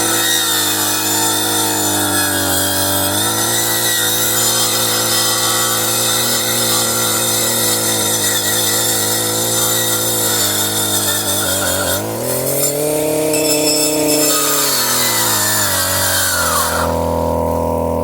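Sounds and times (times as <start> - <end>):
circular saw cutting wood: 0.0 - 18.0.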